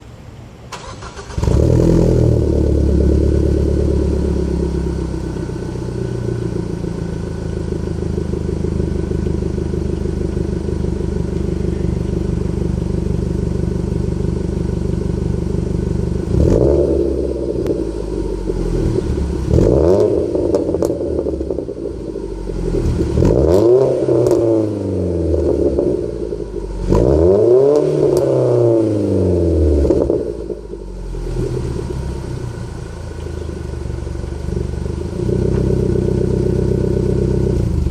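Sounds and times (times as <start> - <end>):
car engine starting and idling: 0.0 - 37.9
car engine revving: 0.7 - 37.9.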